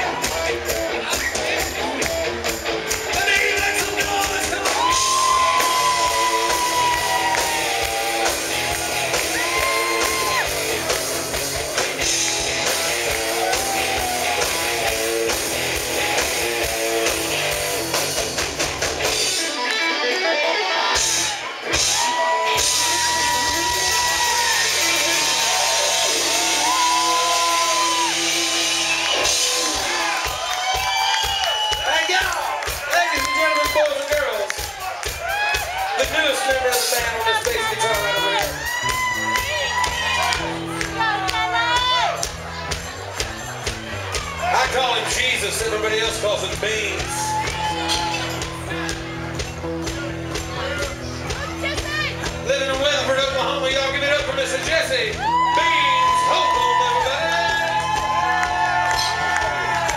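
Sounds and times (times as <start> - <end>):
bass and drums: 0.0 - 20.0, 20.8 - 59.9
distorted electric guitars: 0.0 - 33.7, 34.5 - 59.9.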